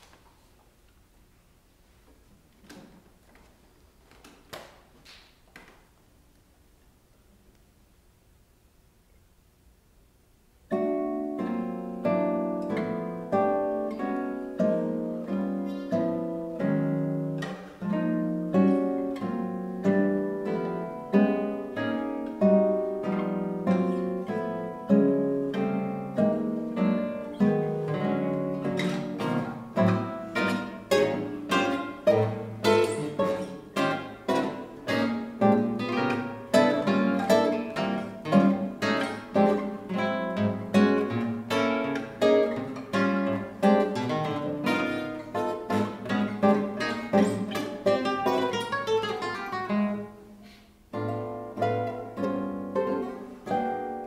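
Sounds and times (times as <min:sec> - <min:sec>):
nylon-string guitar duet: 0:00.0 - 0:07.7, 0:10.4 - 0:54.0.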